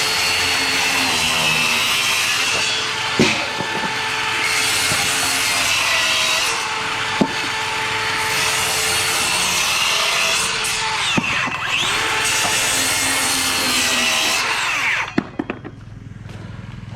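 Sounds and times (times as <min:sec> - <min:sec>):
saw cutting through wood: 0:00.0 - 0:15.2.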